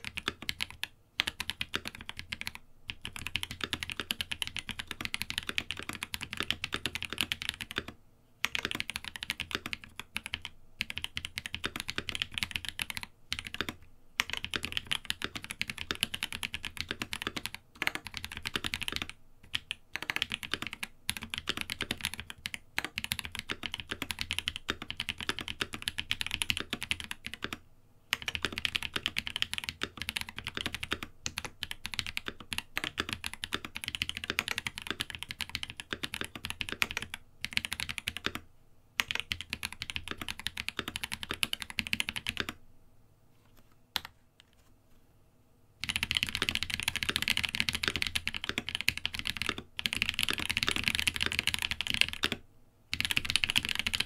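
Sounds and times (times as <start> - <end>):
fast mechanical keyboard typing: 0.0 - 38.4, 39.0 - 42.6, 45.8 - 54.0.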